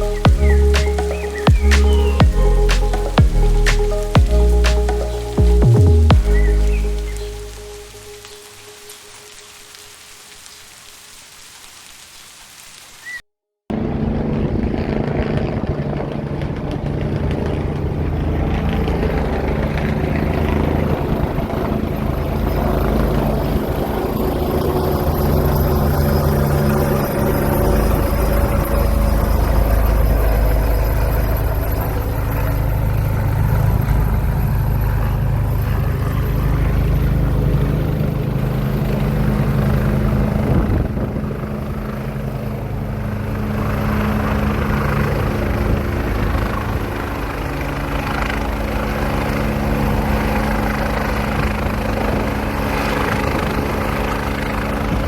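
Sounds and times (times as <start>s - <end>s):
helicopter hovering: 0.0s - 8.2s, 13.7s - 55.0s.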